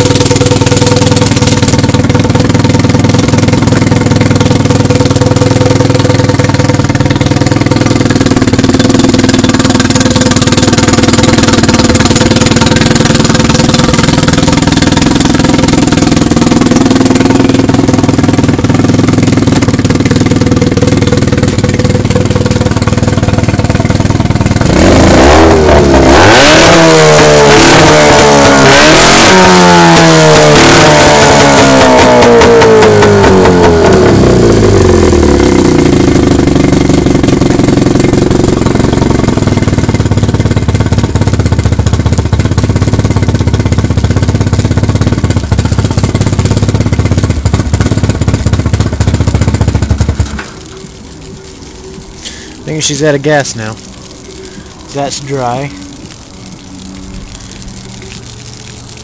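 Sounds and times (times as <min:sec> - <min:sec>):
outboard motor running and revving: 0:00.0 - 0:50.4.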